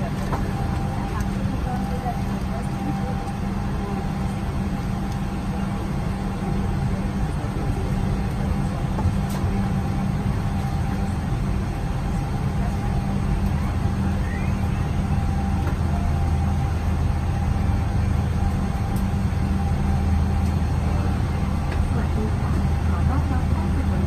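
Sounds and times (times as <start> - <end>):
airliner cabin hum: 0.0 - 24.0.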